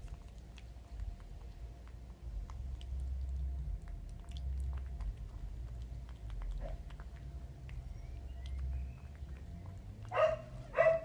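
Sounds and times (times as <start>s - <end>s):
cat crunching food: 0.0s - 10.7s
low rumble: 0.0s - 10.8s.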